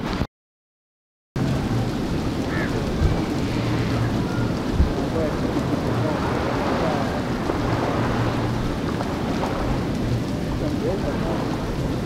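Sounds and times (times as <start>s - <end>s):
sea noise: 1.4s - 12.0s
wind rumbling on microphone: 1.4s - 12.0s.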